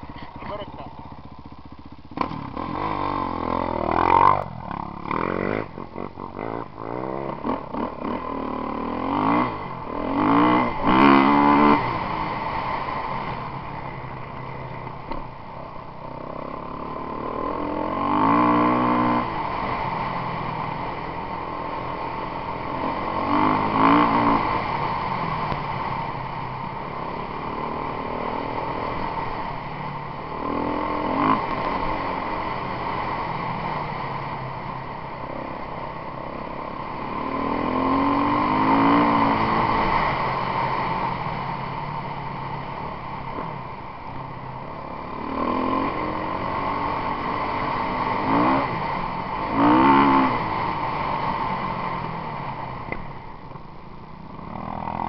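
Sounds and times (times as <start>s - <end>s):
motocross bike engine revving: 0.0s - 53.0s, 54.2s - 55.0s.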